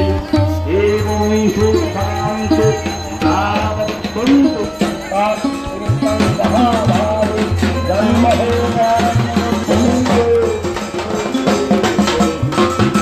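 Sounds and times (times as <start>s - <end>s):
light percussion: 0.0s - 13.0s
wavering melody: 0.0s - 13.0s.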